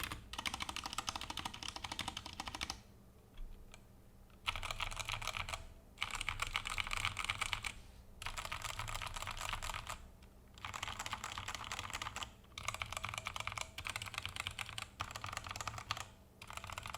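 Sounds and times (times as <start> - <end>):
fast typing on mechanical keyboard: 0.0 - 2.8, 4.4 - 16.9.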